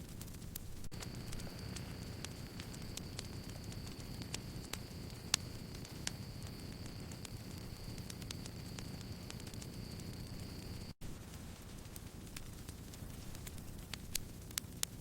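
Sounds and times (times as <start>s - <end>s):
campfire crackling: 0.0s - 15.0s
fire pops and snaps: 0.0s - 15.0s.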